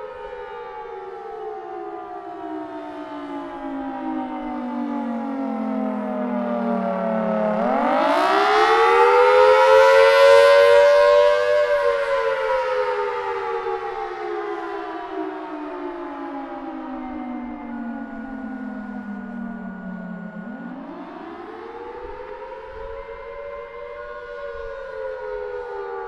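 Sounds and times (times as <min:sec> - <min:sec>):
warning siren wailing: 0:00.0 - 0:26.0.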